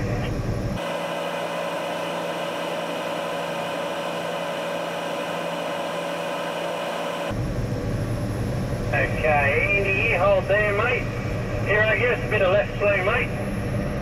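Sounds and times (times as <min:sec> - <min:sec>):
sped-up engine high-pitched hum: 0:00.0 - 0:14.0.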